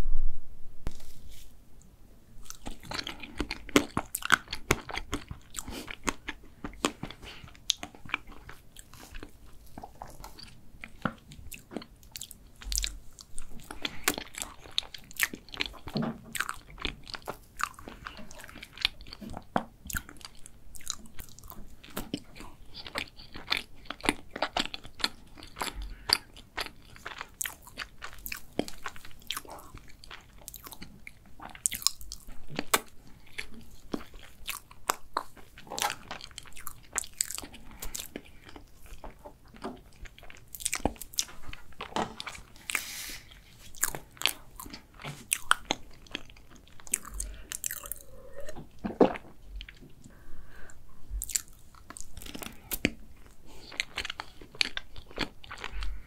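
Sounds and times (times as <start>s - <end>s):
chewing cake with mouth clicks: 2.4s - 50.2s, 51.1s - 56.0s.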